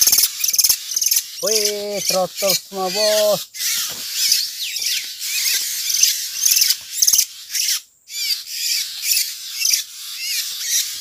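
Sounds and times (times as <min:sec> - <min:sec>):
birds chattering and chirping: 0:00.0 - 0:11.0.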